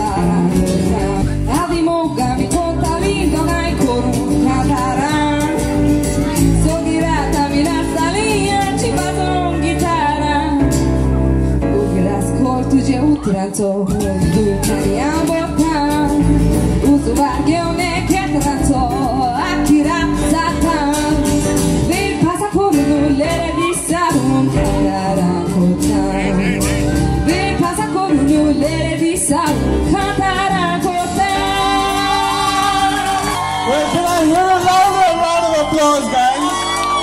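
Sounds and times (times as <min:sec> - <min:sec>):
woman singing into a microphone: 0:00.0 - 0:33.9
acoustic guitar: 0:00.0 - 0:37.0.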